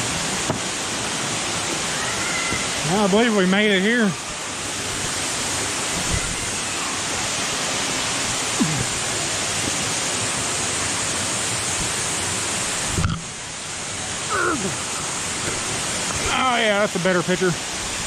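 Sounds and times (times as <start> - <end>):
waterfall rushing into pool: 0.0 - 18.0.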